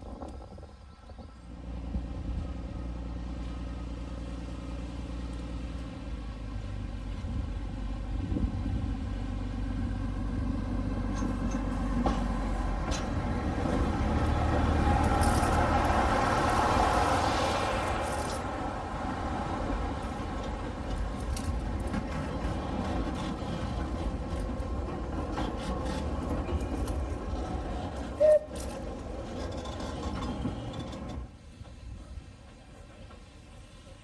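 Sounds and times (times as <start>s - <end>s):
heavy engine rumbling: 1.2s - 34.0s.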